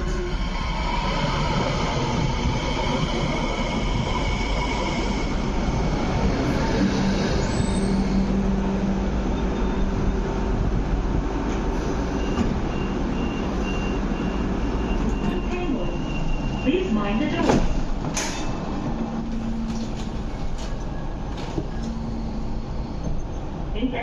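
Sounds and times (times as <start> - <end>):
light rail train wheels rumbling: 0.0 - 24.0.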